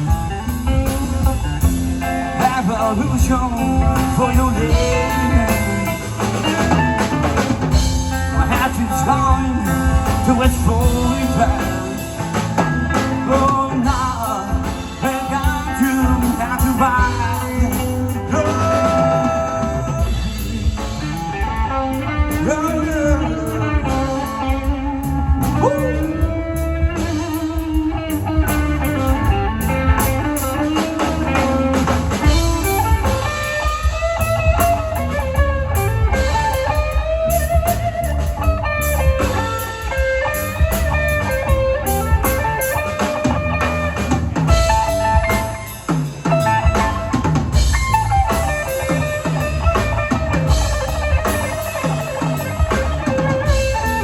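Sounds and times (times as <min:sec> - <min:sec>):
electric guitar melody: 0:00.0 - 0:54.0
reggae band playing: 0:00.0 - 0:54.0.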